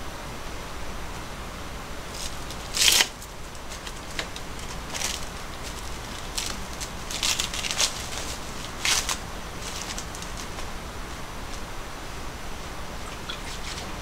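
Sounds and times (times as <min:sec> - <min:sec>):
dried seaweed sheets crackling: 0:02.0 - 0:14.0.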